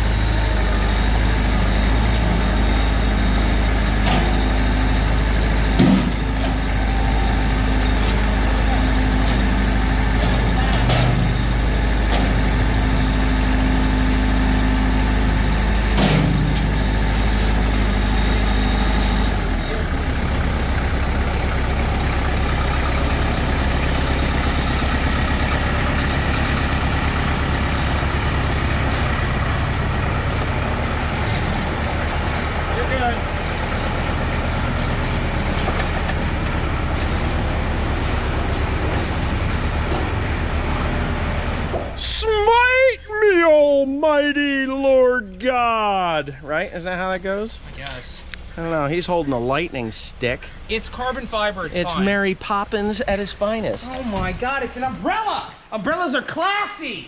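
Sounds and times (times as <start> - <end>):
engine idling: 0.0 - 44.3, 45.3 - 55.7.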